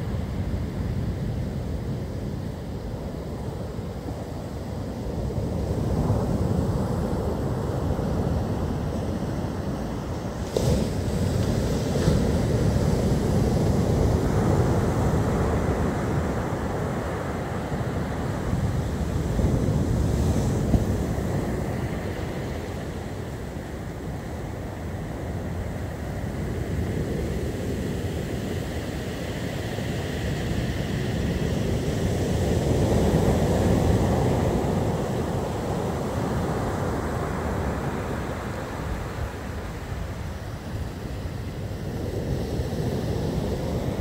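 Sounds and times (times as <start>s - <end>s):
sea surf breaking on beach: 0.0s - 44.0s
wind buffeting microphone: 0.0s - 44.0s.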